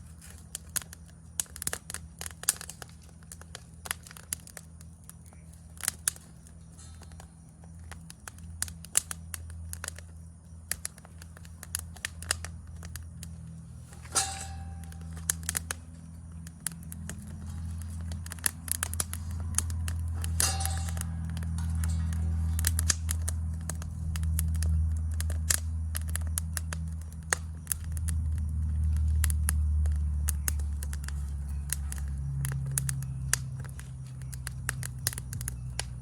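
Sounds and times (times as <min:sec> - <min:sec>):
wood fire crackling: 0:00.0 - 0:36.0
low hum: 0:04.6 - 0:36.0.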